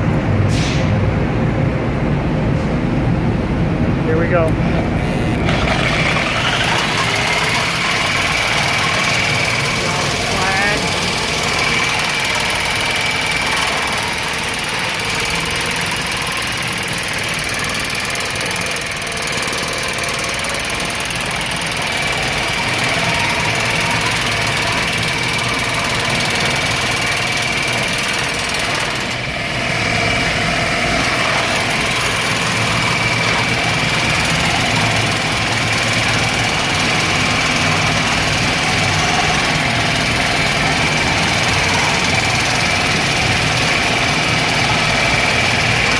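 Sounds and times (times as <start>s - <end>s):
slat grinder grinding metal: 5.0s - 45.9s.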